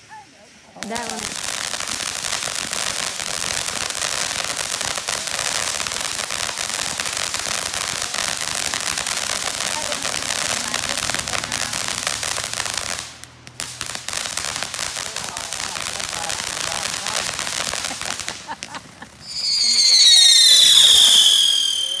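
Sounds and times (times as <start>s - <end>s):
firework fountain hissing and crackling: 0.0s - 22.0s.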